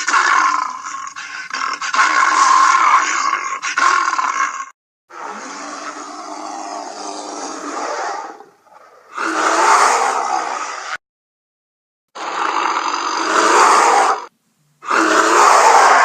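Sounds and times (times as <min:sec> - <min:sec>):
bear roaring: 0:00.0 - 0:11.0, 0:12.2 - 0:16.0.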